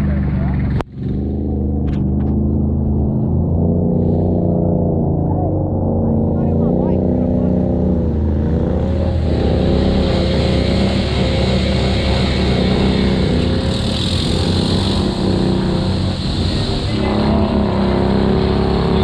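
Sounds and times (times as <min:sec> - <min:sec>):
atv engine at high revs: 0:00.0 - 0:19.0
rush of noise: 0:00.0 - 0:19.0.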